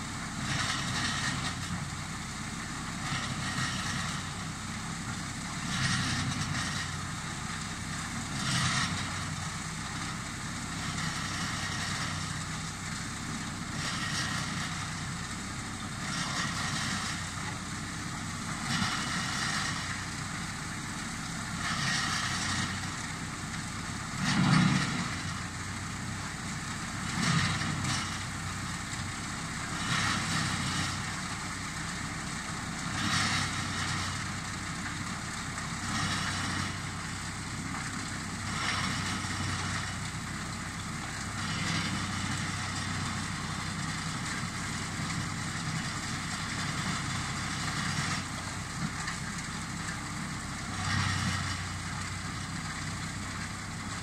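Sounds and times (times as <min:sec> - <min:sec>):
distant wood chipper engine: 0:00.0 - 0:54.0.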